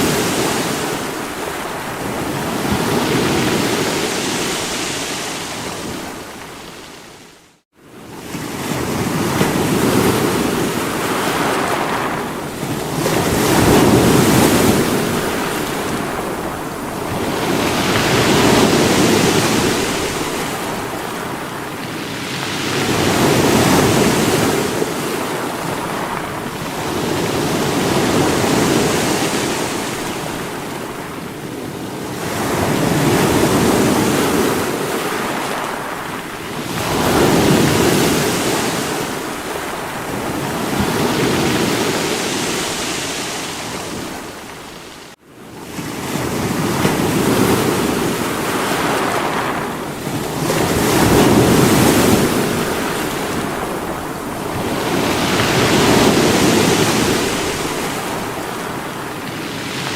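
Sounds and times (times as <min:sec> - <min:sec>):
sea waves breaking on rocks: 0:08.0 - 0:59.9.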